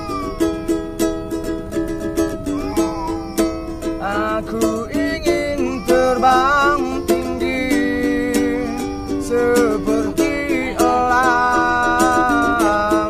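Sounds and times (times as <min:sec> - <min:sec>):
person singing: 0:00.0 - 0:00.8, 0:02.4 - 0:13.0
small ukulele strummed: 0:00.0 - 0:13.0.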